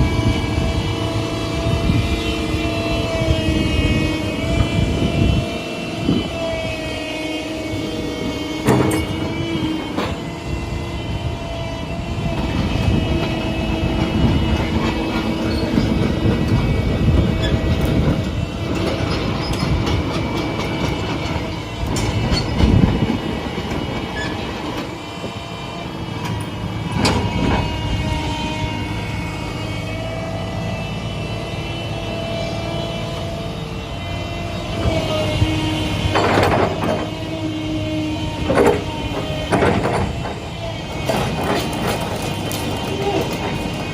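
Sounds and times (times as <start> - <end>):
excavator engine and hydraulics whine: 0.0 - 43.9.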